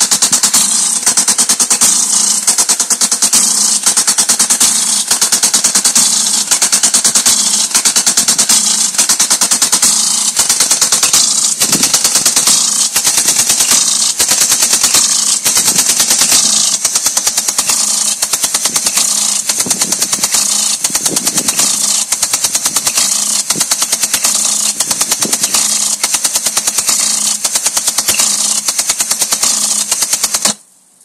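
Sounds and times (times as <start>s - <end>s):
water spray hissing: 0.0s - 30.6s
impact sprinkler clicking: 0.0s - 30.7s.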